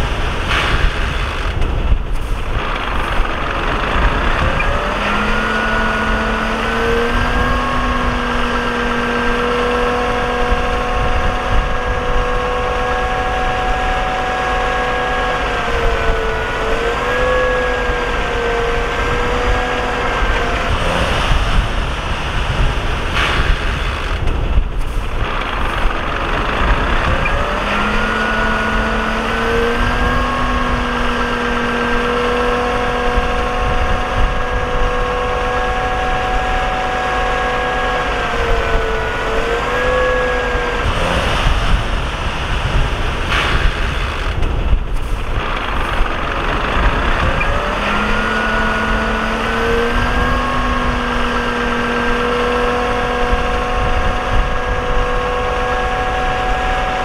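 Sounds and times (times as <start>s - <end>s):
diesel machine low rumble: 0.0s - 57.0s
steady pitched whine: 0.0s - 57.0s.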